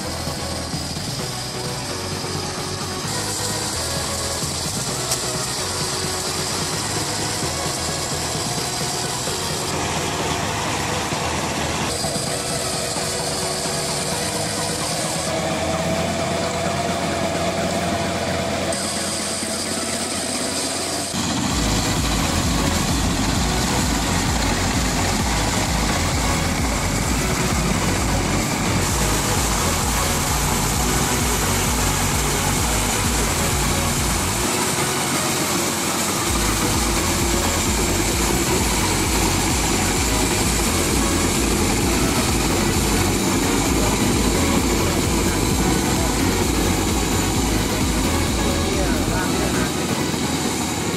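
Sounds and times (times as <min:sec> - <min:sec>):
crawler rotavator engine running: 0:00.0 - 0:50.9
rotary tiller working wet soil: 0:00.0 - 0:50.9.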